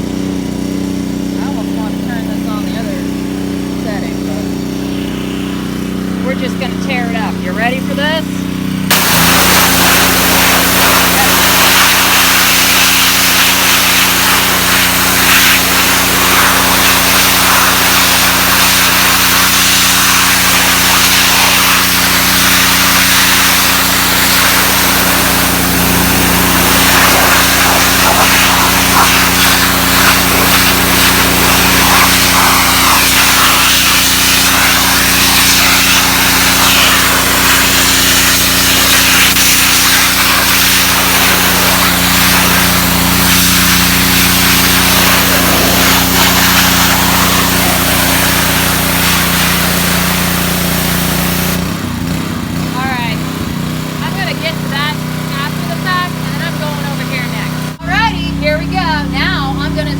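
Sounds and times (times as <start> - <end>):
pressure washer engine running: 0.0 - 59.9
water jet hissing: 8.9 - 51.7, 54.0 - 59.9.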